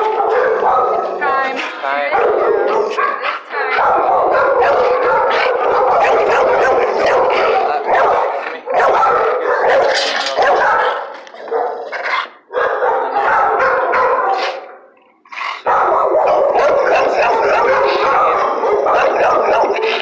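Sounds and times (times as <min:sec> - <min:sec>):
dog barking loudly: 0:00.0 - 0:20.0.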